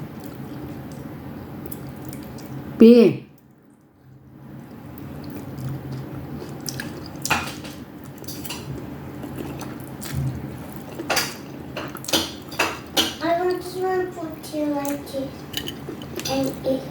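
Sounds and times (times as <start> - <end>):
steady low hum: 0.0 - 16.9
wet chewing of noodles: 0.1 - 2.6, 3.4 - 16.9.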